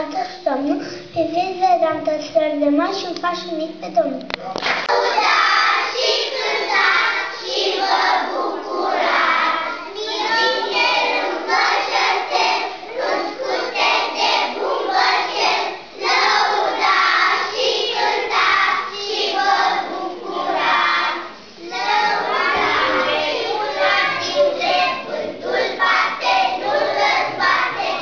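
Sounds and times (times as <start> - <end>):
children's choir singing: 4.6 - 28.0.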